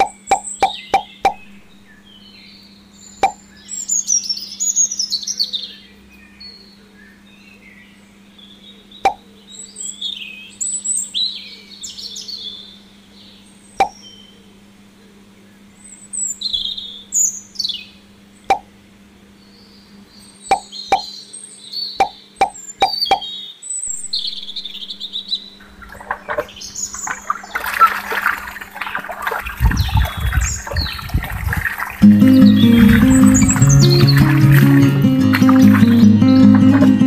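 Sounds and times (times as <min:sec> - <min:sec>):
small birds chirping: 0:00.0 - 0:14.6, 0:19.3 - 0:37.0
faint steady hum: 0:00.0 - 0:37.0.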